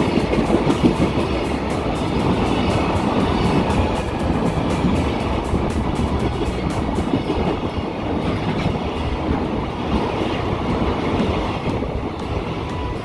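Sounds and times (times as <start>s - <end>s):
freight train rumbling past: 0.0s - 13.0s
wheels clacking over rail joints: 0.0s - 13.0s.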